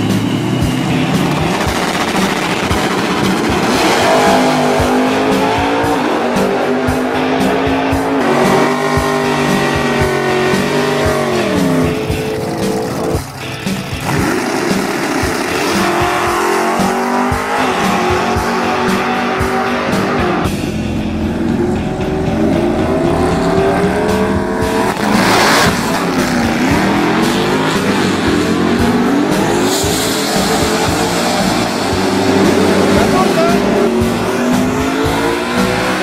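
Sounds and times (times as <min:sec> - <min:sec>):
car engines idling and revving: 0:00.0 - 0:36.0.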